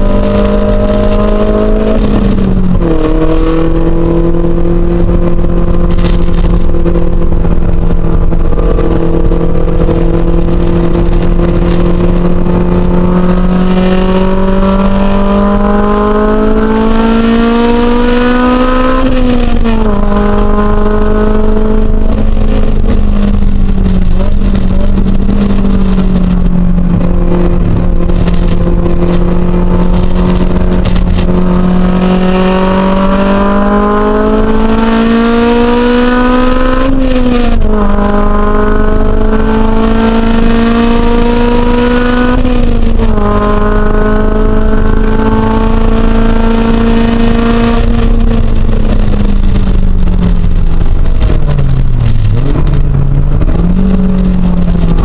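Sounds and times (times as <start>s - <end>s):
car engine revving with upshifts: 0.0s - 55.0s.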